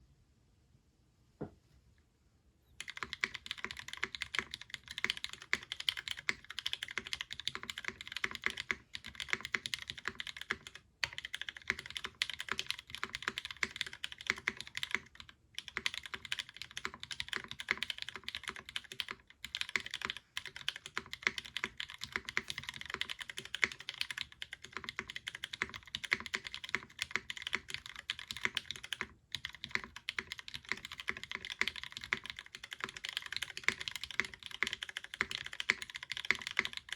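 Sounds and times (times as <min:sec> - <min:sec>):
mechanical keyboard typing: 0:02.8 - 0:36.9.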